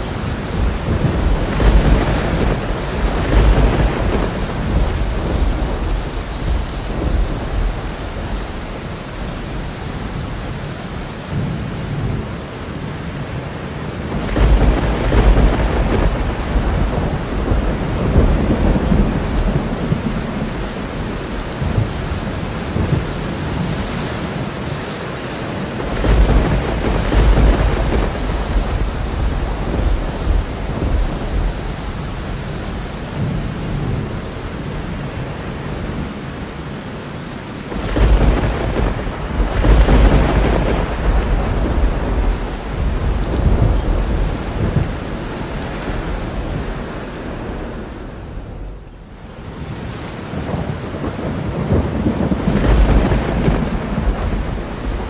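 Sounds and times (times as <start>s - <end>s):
thunder rumbling: 0.0s - 36.5s, 37.6s - 55.0s
steady rain: 0.0s - 55.0s.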